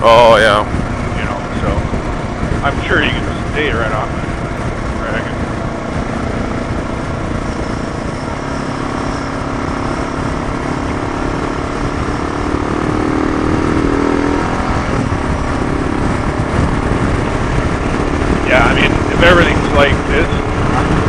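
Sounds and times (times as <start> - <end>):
motorcycle engine running: 0.0 - 21.0
wind rush: 0.0 - 21.0.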